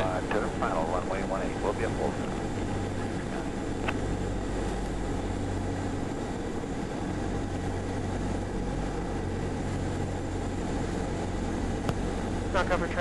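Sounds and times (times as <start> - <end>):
airplane engine and propeller: 0.0 - 13.0.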